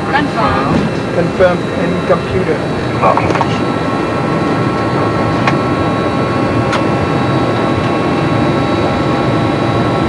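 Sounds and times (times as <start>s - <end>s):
steady whining tones: 0.0s - 10.0s.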